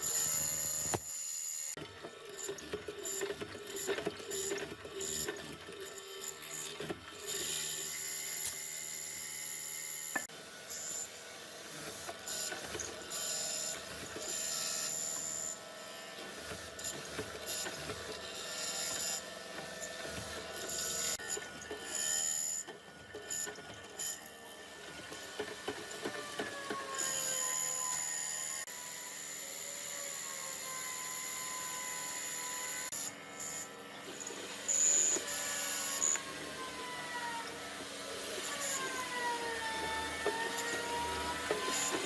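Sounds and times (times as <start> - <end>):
power tools running: 0.0 - 42.0.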